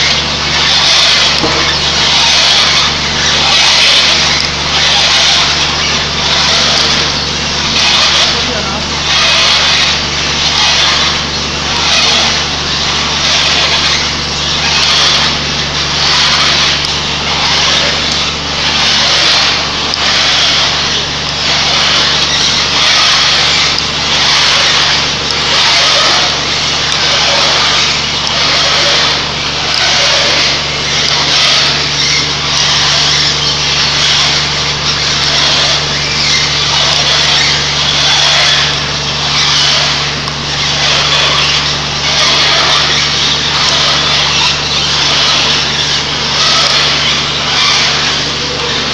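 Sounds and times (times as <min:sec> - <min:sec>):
motor hum: 0:00.0 - 0:48.9.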